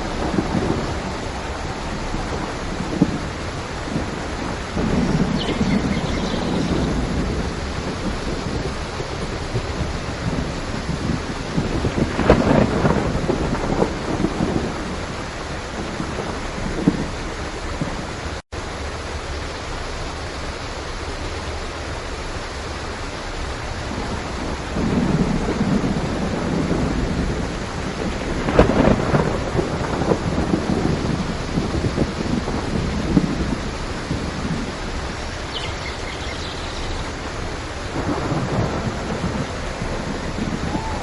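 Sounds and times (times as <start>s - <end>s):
thunder rumbling with cracks: 0.0s - 18.2s, 23.8s - 41.0s
heavy rain: 0.0s - 41.0s.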